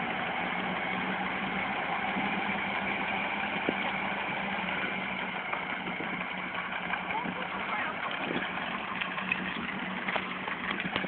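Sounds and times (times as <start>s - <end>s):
tractor diesel engines idling: 0.0s - 11.0s.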